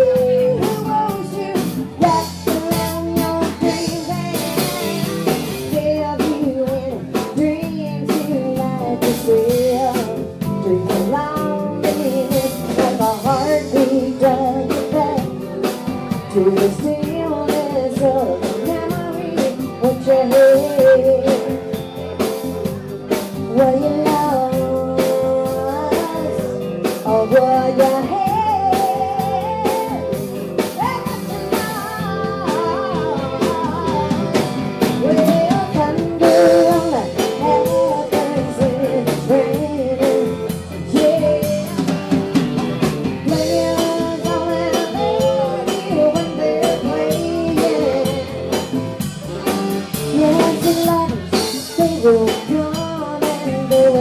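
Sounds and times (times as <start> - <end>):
woman singing: 0.0 - 42.4, 43.0 - 54.0
drum kit: 0.0 - 54.0
electric and acoustic guitars: 0.0 - 54.0.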